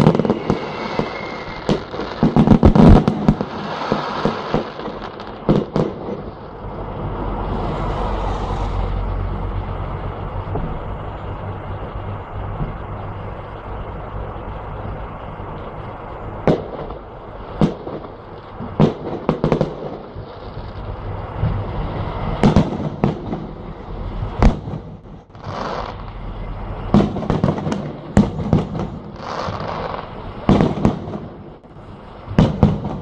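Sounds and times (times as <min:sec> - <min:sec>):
fireworks bangs: 0:00.0 - 0:13.6, 0:14.8 - 0:33.0.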